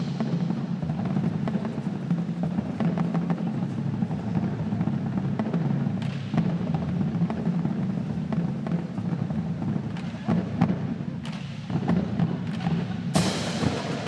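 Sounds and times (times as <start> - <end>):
marching drum line playing: 0.0 - 14.0.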